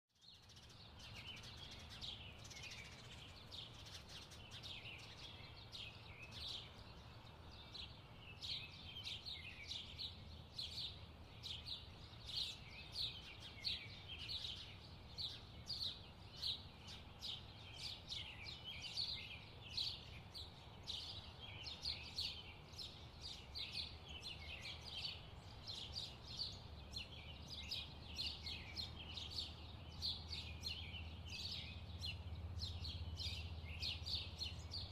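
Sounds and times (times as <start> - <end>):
birds chirping: 0.2 - 34.9.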